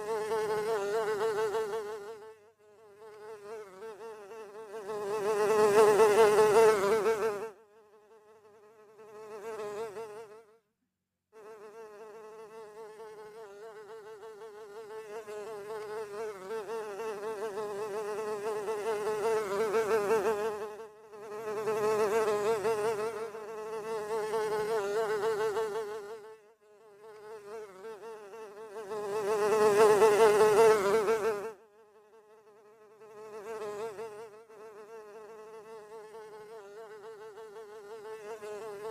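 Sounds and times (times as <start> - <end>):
fly buzzing: 0.0 - 10.6, 11.4 - 38.9.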